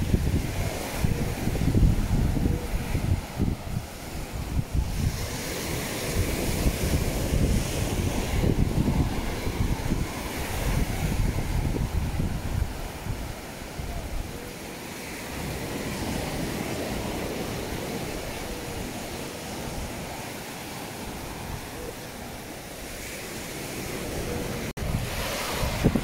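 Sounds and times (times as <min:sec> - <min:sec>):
surf hissing on beach: 0:00.0 - 0:26.0
wind buffeting microphone: 0:00.0 - 0:26.0.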